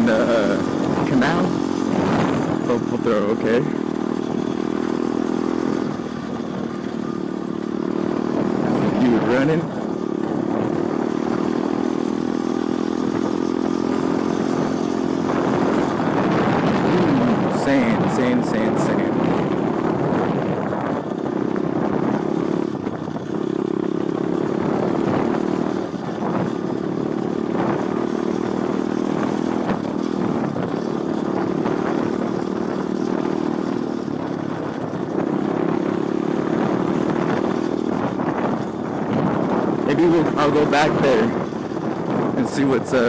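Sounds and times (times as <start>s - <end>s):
motorbike engine: 0.0s - 43.0s
wind and tyre noise: 0.0s - 43.0s.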